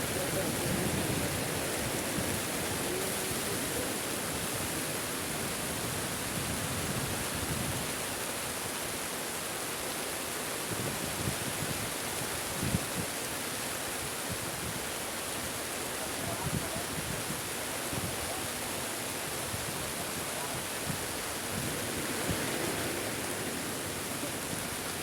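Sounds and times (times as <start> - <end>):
heavy rain pouring: 0.0 - 10.6, 12.5 - 25.0.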